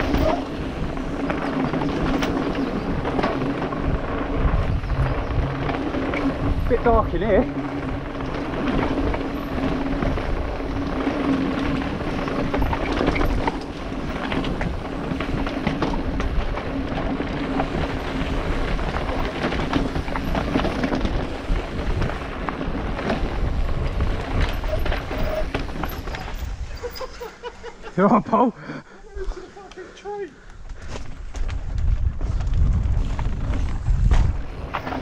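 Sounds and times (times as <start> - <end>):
wind on microphone: 0.0 - 27.0, 30.7 - 35.0
bike rattling and knocking: 0.0 - 27.5, 30.6 - 35.0
tyres rolling over dirt: 0.0 - 28.3, 31.3 - 35.0.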